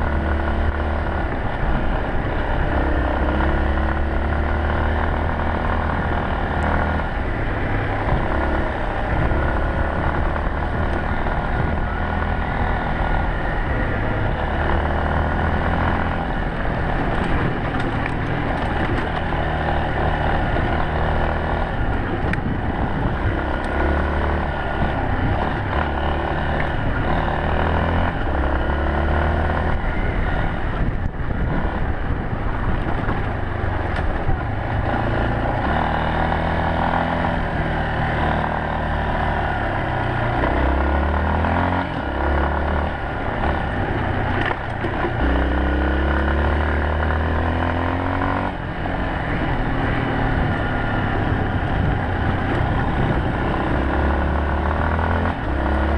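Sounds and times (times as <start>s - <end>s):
motorcycle engine: 0.0s - 55.9s
wind and road noise: 0.0s - 55.9s.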